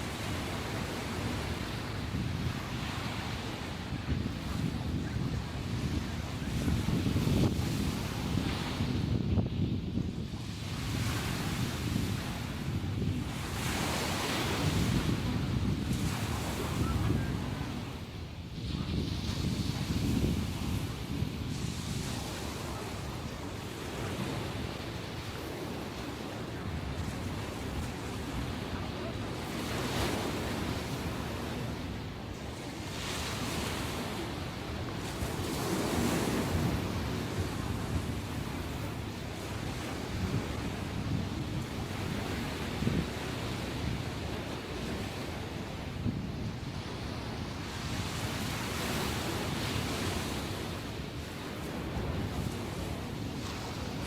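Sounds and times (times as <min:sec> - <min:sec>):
ocean waves washing ashore: 0:00.0 - 0:54.0
wind buffeting microphone: 0:00.0 - 0:54.0.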